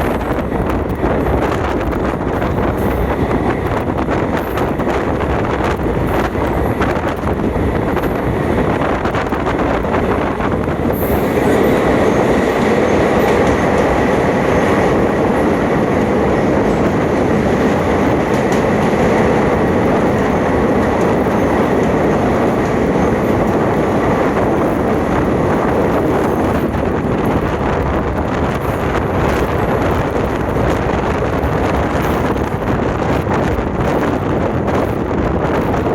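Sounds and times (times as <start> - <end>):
train wheels rumbling: 0.0 - 35.9
wheels clickety-clack: 0.0 - 35.9.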